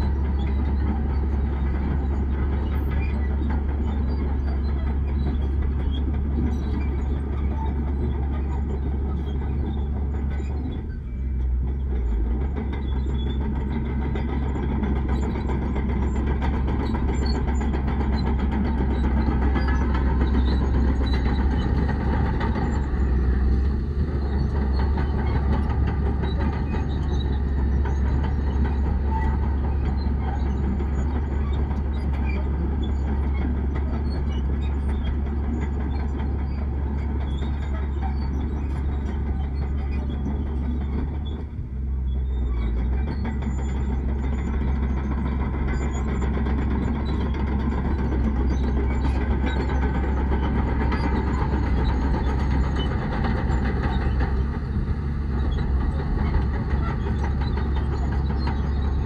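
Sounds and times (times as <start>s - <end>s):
diesel earthmoving machinery rumbling: 0.0s - 59.0s.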